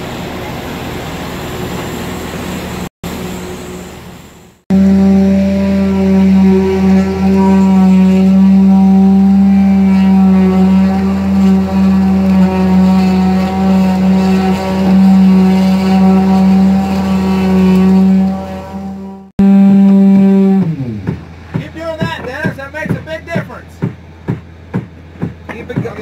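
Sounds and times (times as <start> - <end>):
concrete vibrator humming: 4.7 - 26.0.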